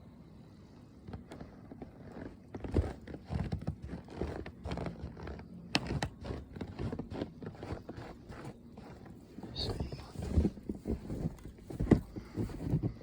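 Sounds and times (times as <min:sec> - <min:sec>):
footsteps crunching in snow: 0:01.9 - 0:13.0.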